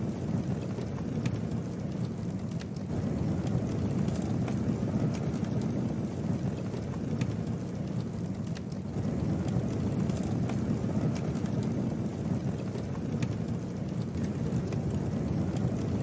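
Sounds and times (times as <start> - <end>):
fire crackling and popping: 0.0 - 16.0
low rush of flames: 0.0 - 16.0.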